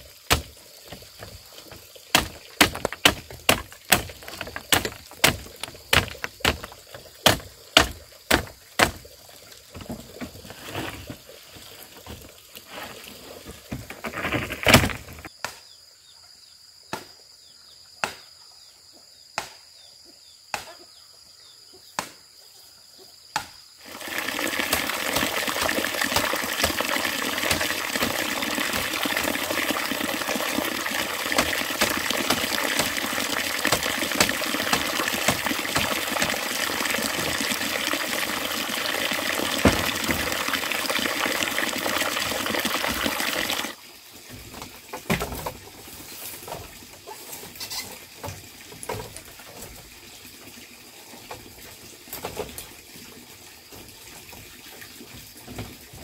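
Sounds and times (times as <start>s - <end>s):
running water rushing: 0.0s - 15.2s, 23.8s - 56.0s.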